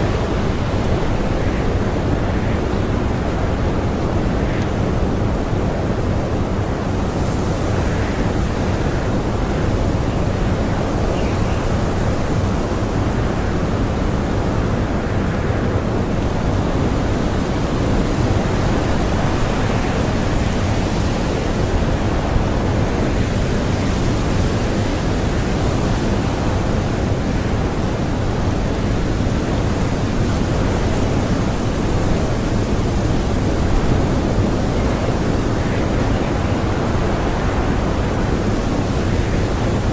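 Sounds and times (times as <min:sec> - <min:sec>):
blizzard wind blowing: 0:00.0 - 0:39.9.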